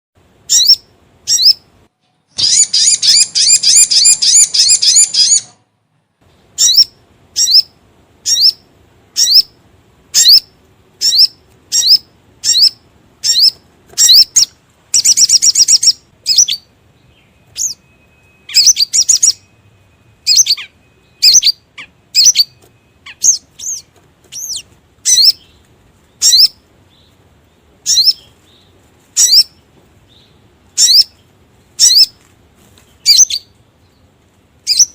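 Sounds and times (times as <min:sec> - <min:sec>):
bird chirps: 0:00.4 - 0:05.6, 0:06.3 - 0:32.2, 0:32.8 - 0:34.9
bird trilling: 0:00.5 - 0:01.6, 0:02.3 - 0:05.6, 0:06.6 - 0:25.6, 0:26.2 - 0:27.1, 0:27.8 - 0:28.3, 0:29.2 - 0:29.6, 0:30.2 - 0:32.2, 0:33.0 - 0:33.6, 0:34.6 - 0:34.9.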